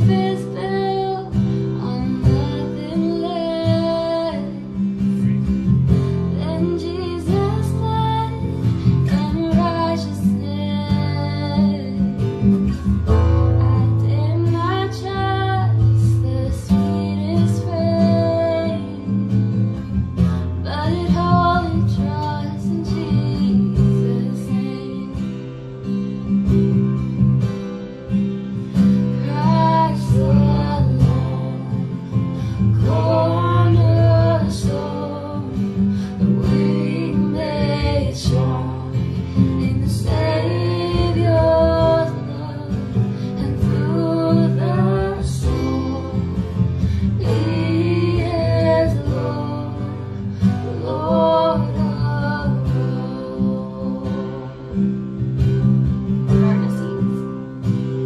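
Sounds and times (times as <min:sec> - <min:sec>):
woman singing: 0:00.0 - 0:27.1, 0:28.4 - 0:57.4
acoustic guitar strumming: 0:00.0 - 0:58.0.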